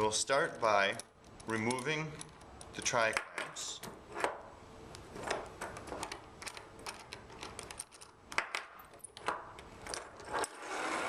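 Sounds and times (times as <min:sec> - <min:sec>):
metal clamps clicking and clinking: 0:00.5 - 0:04.3, 0:05.2 - 0:10.7.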